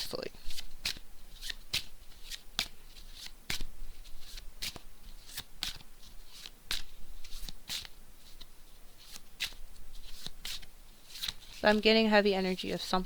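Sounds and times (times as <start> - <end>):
cards being shuffled: 0.4 - 12.0.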